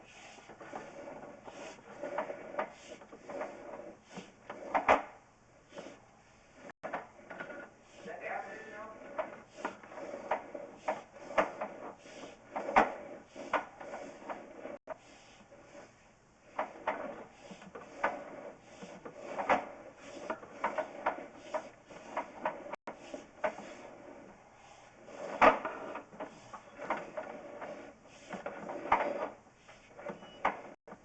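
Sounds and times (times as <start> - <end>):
cable knocking and scraping in pipe: 0.0 - 24.4, 25.0 - 31.0.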